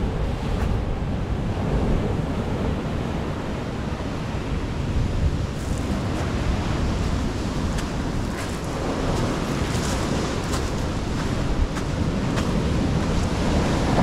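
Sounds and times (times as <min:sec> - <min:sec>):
sea waves washing onto beach: 0:00.0 - 0:14.0
wind rumbling on microphone: 0:00.0 - 0:14.0.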